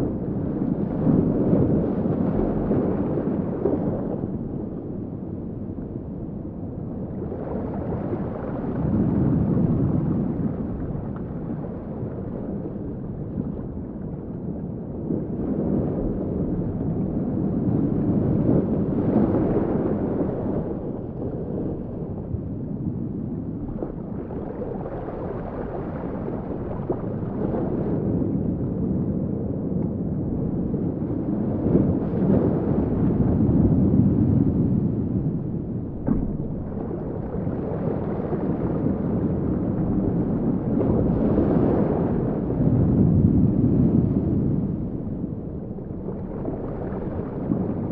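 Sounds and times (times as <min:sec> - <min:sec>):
muffled underwater rumble: 0:00.0 - 0:47.9.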